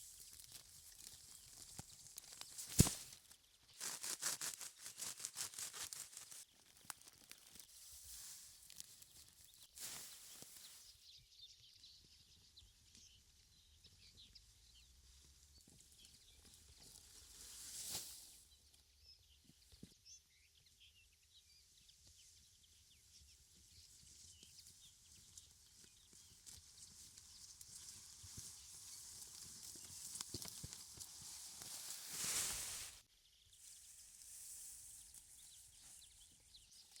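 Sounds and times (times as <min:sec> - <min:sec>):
small ticks and rustles: 0:00.0 - 0:37.0.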